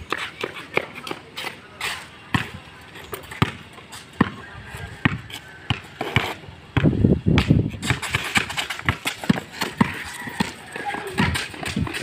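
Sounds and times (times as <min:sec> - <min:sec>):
basketball bouncing on concrete: 0:00.0 - 0:12.0
rumbling scuffing noise: 0:00.0 - 0:12.0.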